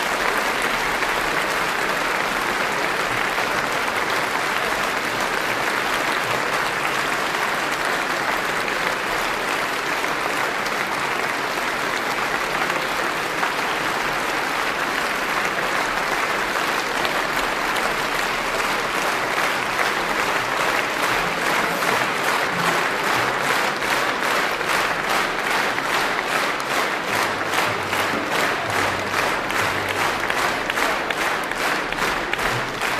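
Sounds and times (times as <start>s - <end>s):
audience applauding: 0.0s - 32.9s.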